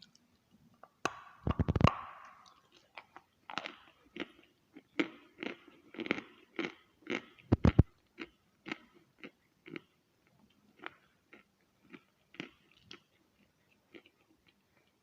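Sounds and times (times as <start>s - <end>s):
person chewing chalk: 1.6s - 9.9s, 10.8s - 15.0s.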